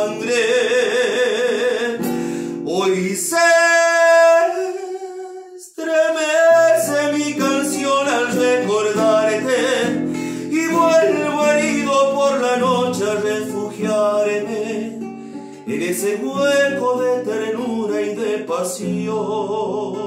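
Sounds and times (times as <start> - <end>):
acoustic guitar: 0.0 - 20.0
man singing a ballad: 0.0 - 20.0.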